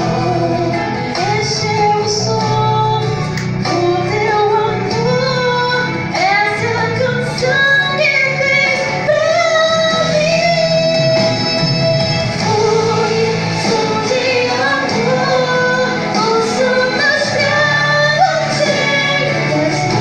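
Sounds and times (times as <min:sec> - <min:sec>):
woman singing: 0:00.0 - 0:20.0.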